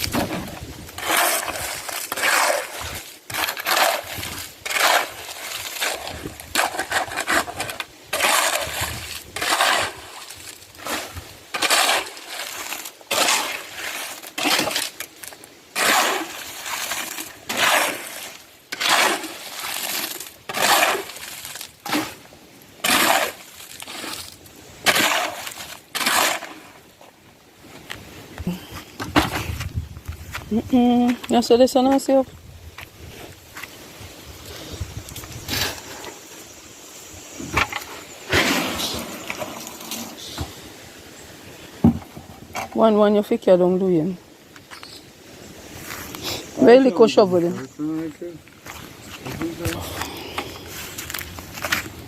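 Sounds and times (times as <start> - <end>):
gritty scraping and crunching: 0.0 - 40.9, 44.5 - 52.0.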